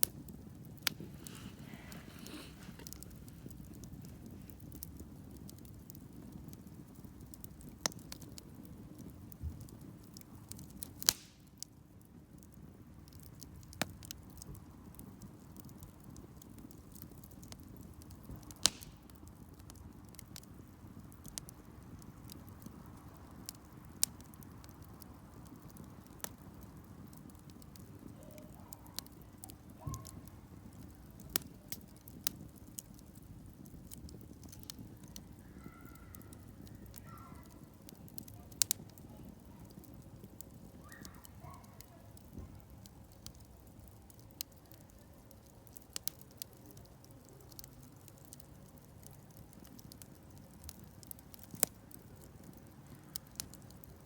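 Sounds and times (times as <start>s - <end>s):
campfire crackling and popping: 0.0s - 54.0s
low rumble of burning fire: 0.0s - 54.0s.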